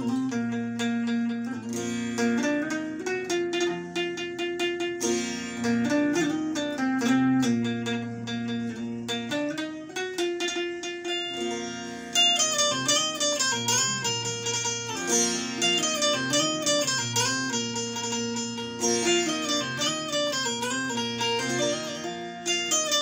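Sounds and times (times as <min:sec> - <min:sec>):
electric banjo melody: 0:00.0 - 0:23.0.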